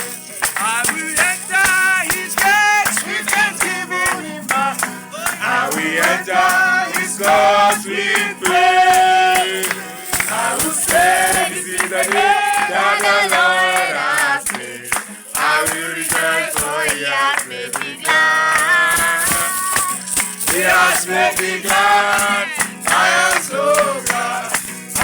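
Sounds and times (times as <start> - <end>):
percussion beat: 0.0 - 25.0
person singing gospel: 0.0 - 25.0.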